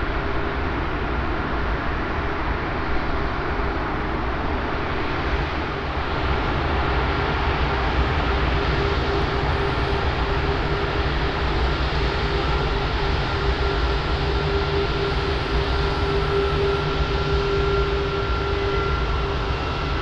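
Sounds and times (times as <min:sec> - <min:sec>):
jet engine whine: 0:00.0 - 0:20.0
jet engines rumbling: 0:03.4 - 0:20.0.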